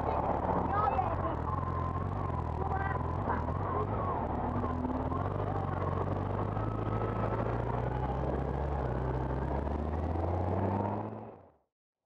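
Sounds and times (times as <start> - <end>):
road noise: 0.0 - 11.6.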